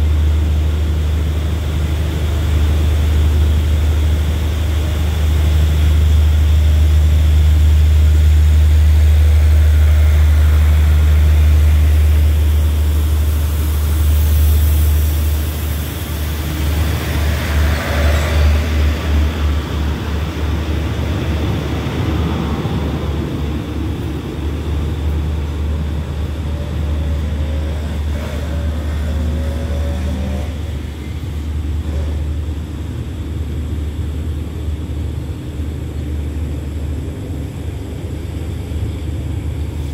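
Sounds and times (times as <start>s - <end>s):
train coaches rumbling: 0.0s - 39.9s.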